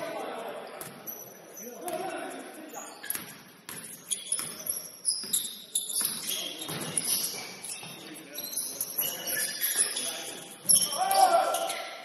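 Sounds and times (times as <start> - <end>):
players' voices: 0.0 - 3.1, 5.4 - 12.0
shoe squeaks: 0.7 - 12.0.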